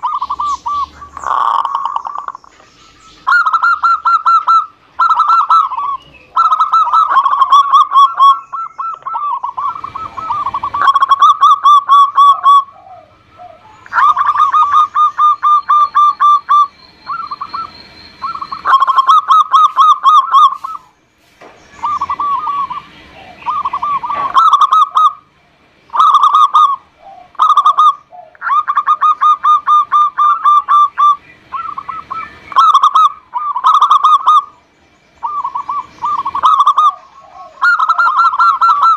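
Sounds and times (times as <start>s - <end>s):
dove trilling coos: 0.0s - 21.0s, 21.6s - 38.9s.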